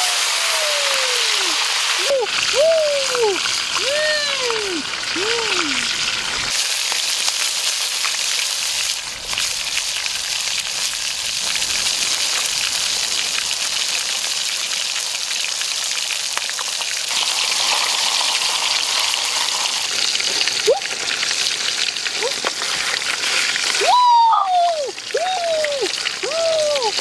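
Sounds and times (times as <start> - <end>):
chicken frying in a wok: 0.0 - 27.0.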